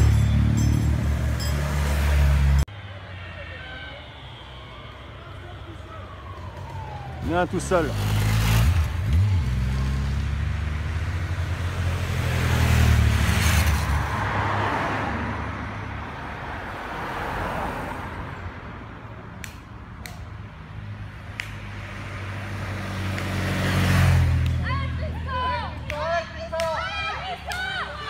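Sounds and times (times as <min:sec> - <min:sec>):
motorcycle engines passing: 0:00.0 - 0:18.4, 0:19.4 - 0:28.0
car passing with tyre noise: 0:00.0 - 0:28.0.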